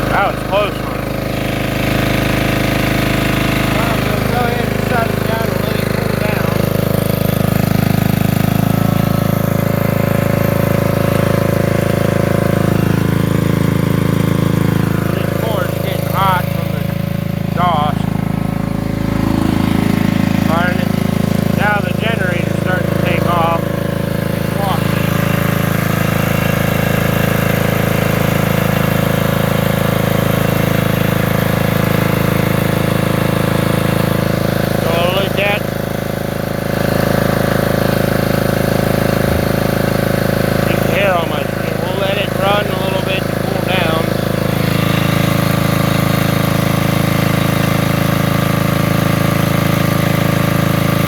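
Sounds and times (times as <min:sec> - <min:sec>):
generator engine running: 0:00.0 - 0:51.0.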